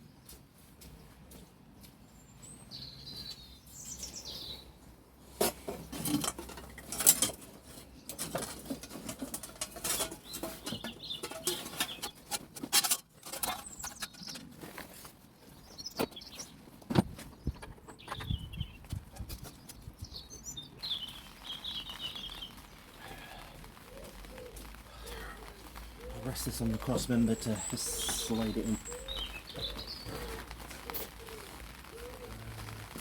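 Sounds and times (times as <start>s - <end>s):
birds chirping: 0.0s - 7.0s, 7.8s - 12.4s, 13.2s - 33.0s.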